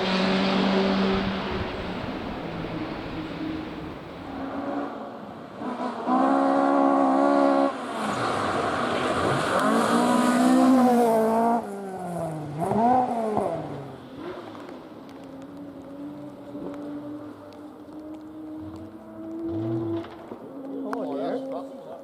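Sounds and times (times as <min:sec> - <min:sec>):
rally car engine revving: 0:00.0 - 0:14.7, 0:15.4 - 0:21.8.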